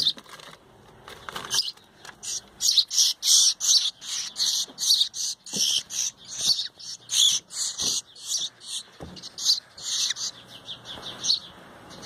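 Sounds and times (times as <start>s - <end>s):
fledgling birds chirping: 0.0s - 12.0s.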